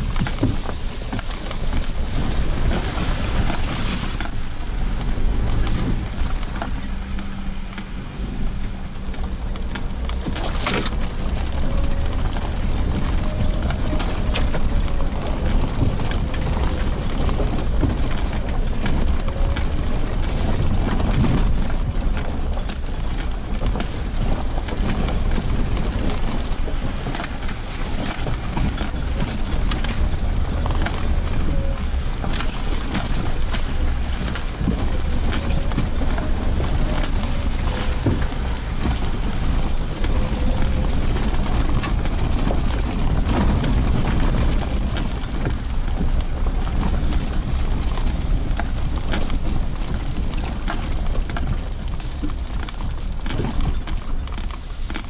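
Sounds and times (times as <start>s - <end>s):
engine and tyre rumble: 0.0s - 55.0s
knocks and rattles: 0.0s - 55.0s.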